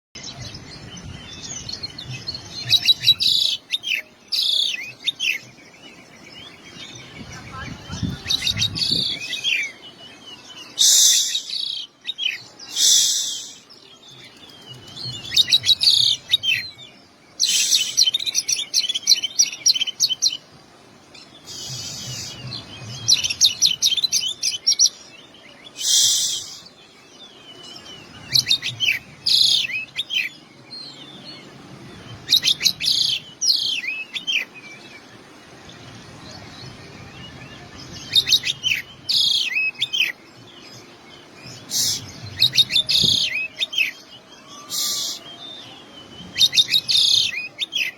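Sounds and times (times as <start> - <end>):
songbird singing: 0.2 - 47.9.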